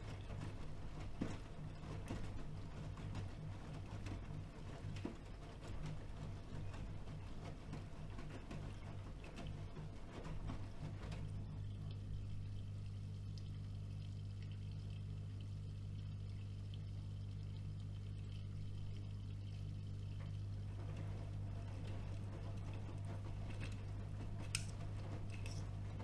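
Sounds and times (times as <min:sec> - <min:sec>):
washing machine hum: 0:00.0 - 0:26.0
water moving in washing machine: 0:00.0 - 0:26.0.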